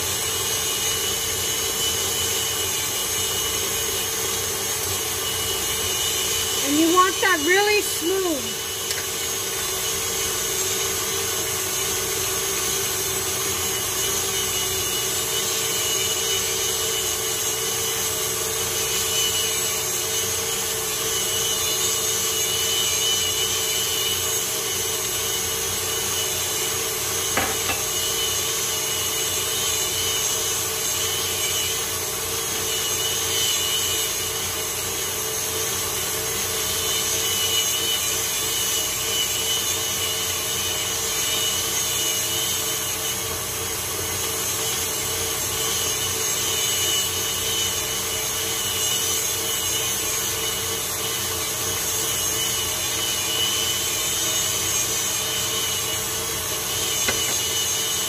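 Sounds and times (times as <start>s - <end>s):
stand mixer beating batter: 0.0s - 58.0s.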